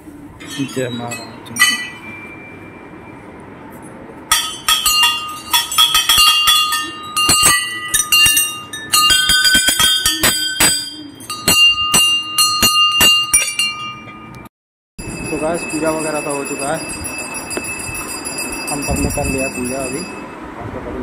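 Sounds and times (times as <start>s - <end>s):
brass bells ringing: 0.4s - 3.0s, 4.3s - 14.4s, 15.0s - 20.4s.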